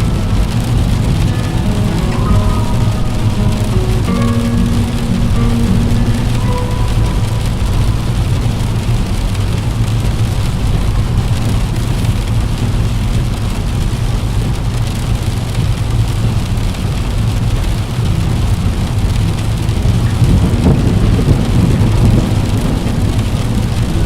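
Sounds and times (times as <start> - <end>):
low rumble: 0.0 - 13.6, 16.6 - 24.0
heavy rain on a window: 0.0 - 24.0.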